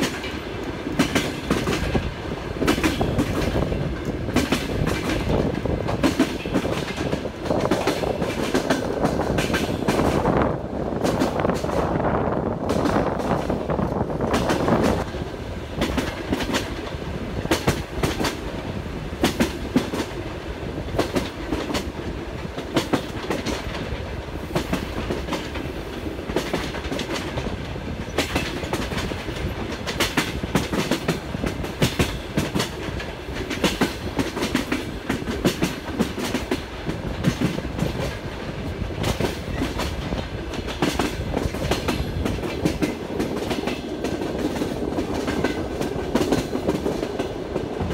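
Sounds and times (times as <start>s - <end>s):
train wheels clattering over joints: 0.0s - 12.0s, 12.6s - 47.9s
train running rumble: 0.0s - 47.9s.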